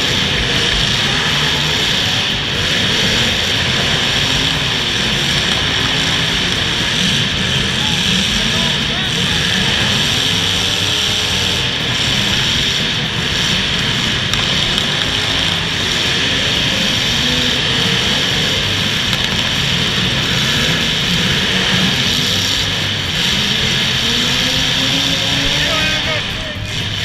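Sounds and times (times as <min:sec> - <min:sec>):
car engines revving: 0:00.0 - 0:27.0
steady din: 0:00.0 - 0:27.0.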